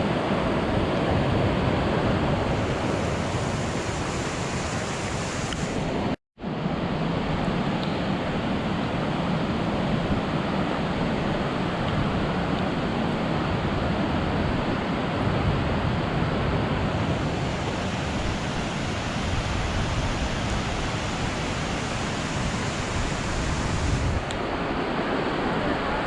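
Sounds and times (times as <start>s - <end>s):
creek water rushing: 0.0s - 6.6s, 7.2s - 26.0s.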